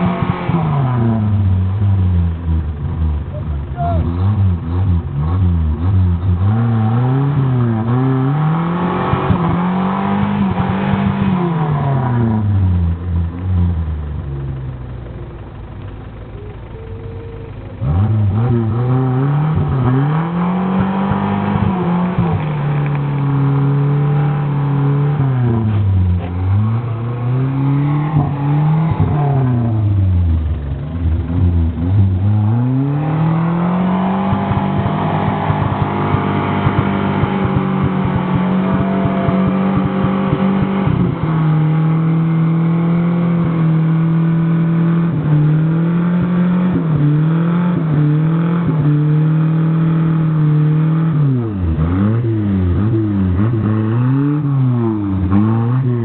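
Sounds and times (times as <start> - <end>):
engine revving up and down: 0.0 - 13.8, 17.7 - 56.0.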